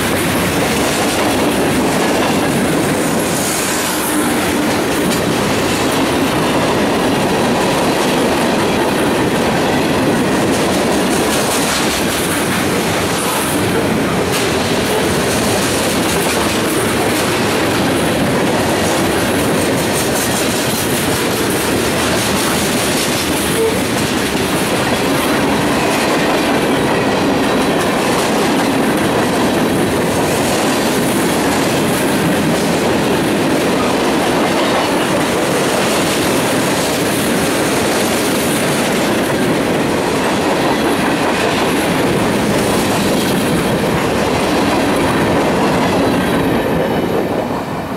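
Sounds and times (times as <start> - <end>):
wheels clacking over rail joints: 0.0 - 47.6
train wheels rumbling on rail: 0.0 - 47.9.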